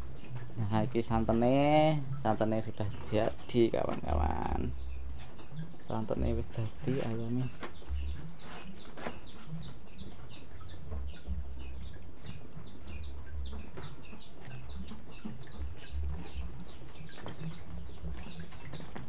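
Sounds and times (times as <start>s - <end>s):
chickens chirping: 1.2s - 19.0s.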